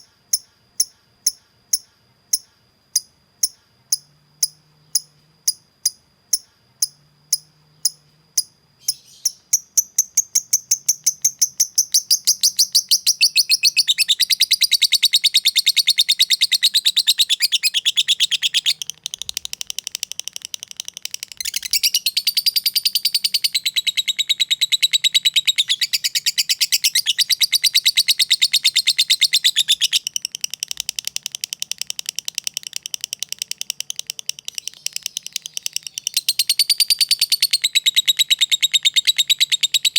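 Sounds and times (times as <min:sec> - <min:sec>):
lovebird chirping and chattering: 0:06.3 - 0:39.9.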